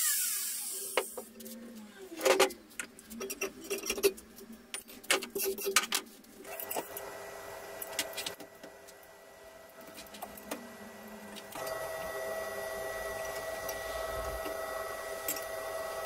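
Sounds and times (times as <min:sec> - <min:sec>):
electrical hum: 0:00.2 - 0:16.0.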